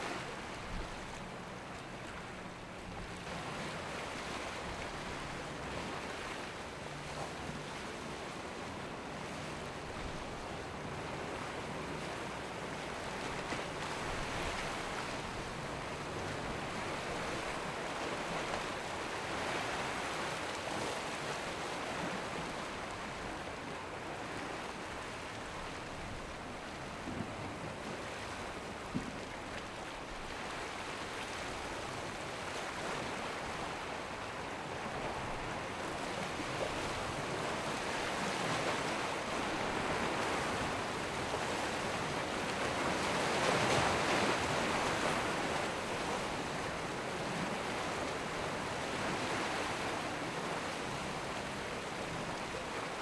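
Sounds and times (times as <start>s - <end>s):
ocean waves and surf: 0.0s - 53.0s.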